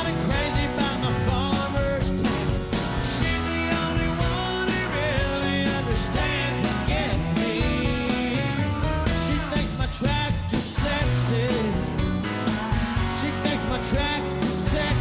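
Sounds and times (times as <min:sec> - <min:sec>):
man singing: 0:00.0 - 0:12.2, 0:13.0 - 0:15.0
country-rock band playing live: 0:00.0 - 0:15.0.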